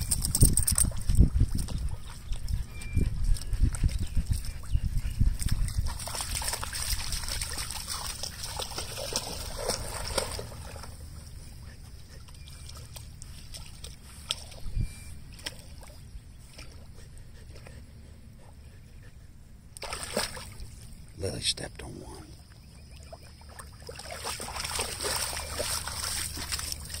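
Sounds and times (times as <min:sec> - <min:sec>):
dogs splashing through water: 0:00.0 - 0:17.8, 0:19.8 - 0:20.9, 0:22.3 - 0:27.0.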